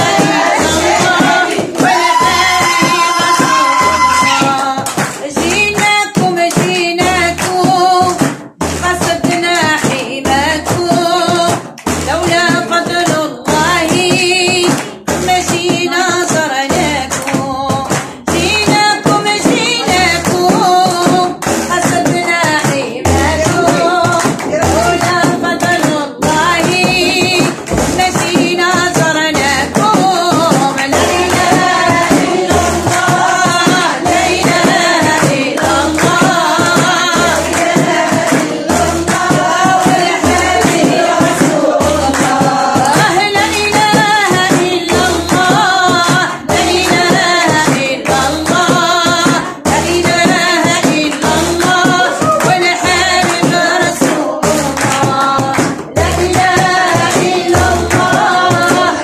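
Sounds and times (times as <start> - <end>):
frame drums beating: 0.0 - 59.0
women singing a devotional chant: 0.0 - 59.0.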